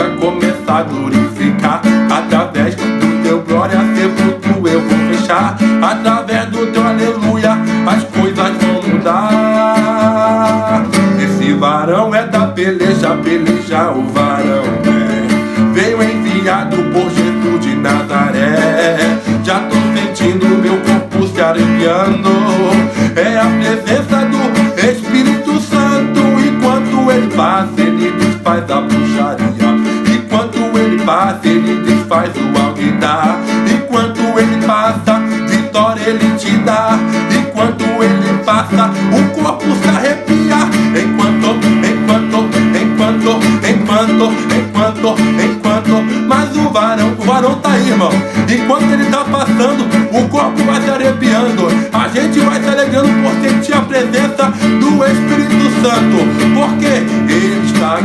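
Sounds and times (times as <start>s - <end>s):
acoustic guitar strummed fast: 0.0s - 58.0s.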